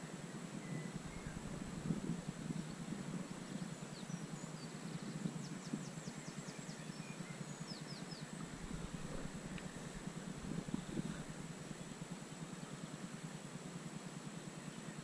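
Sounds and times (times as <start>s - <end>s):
faint birdsong: 0.0s - 15.0s
low outdoor rumble: 0.0s - 15.0s.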